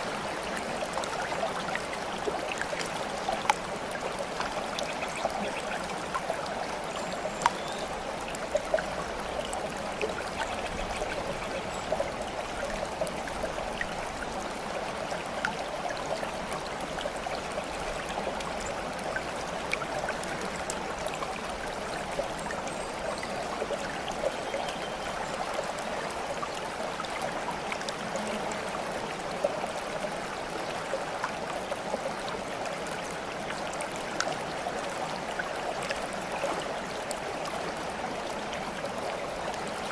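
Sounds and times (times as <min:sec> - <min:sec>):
babbling stream water: 0:00.0 - 0:39.9.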